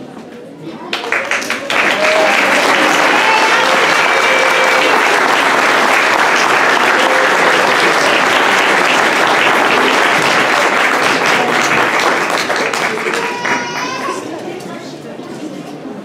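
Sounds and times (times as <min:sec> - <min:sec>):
audience applauding: 0:00.9 - 0:14.3.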